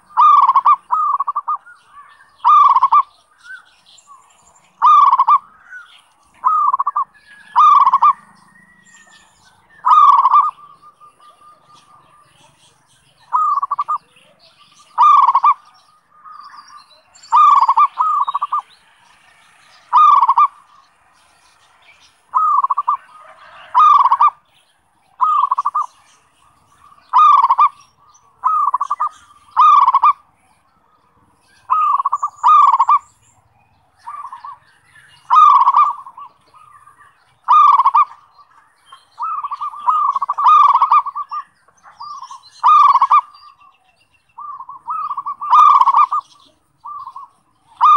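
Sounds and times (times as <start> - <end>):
dove cooing: 0.0 - 3.6, 4.8 - 5.8, 6.4 - 18.7, 19.4 - 21.1, 22.2 - 24.5, 25.1 - 30.3, 31.5 - 33.3, 34.0 - 47.9.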